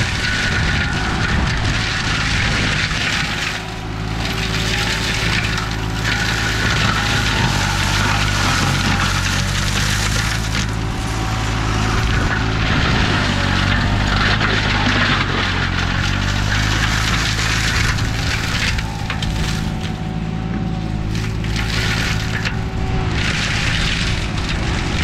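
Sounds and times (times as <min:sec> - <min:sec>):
mower engine running: 0:00.0 - 0:25.0
woody debris crackling: 0:00.0 - 0:25.0.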